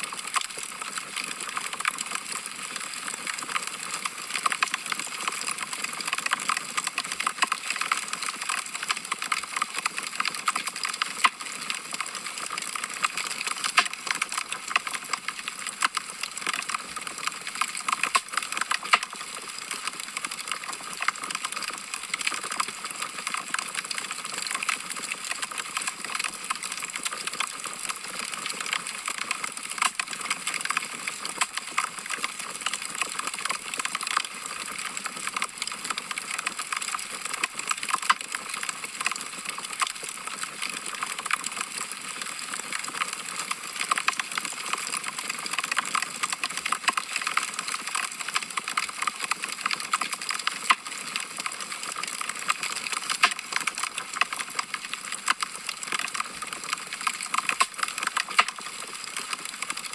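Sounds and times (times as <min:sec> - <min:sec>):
fire crackling and popping: 0:00.1 - 0:59.9.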